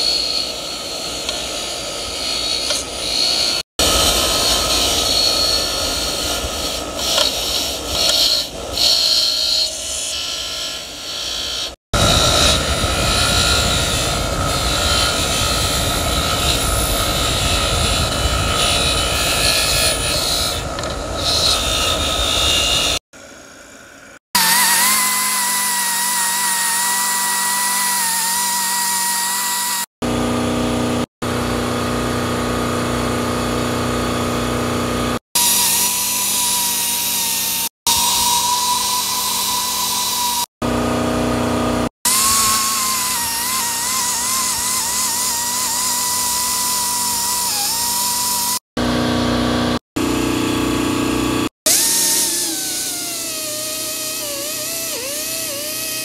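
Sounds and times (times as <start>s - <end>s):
rotary grinder whining: 0.0s - 56.0s.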